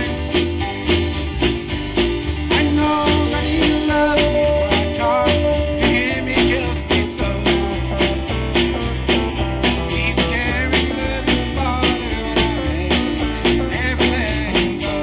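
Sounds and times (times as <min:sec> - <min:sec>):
country band playing instrumental: 0:00.0 - 0:15.0.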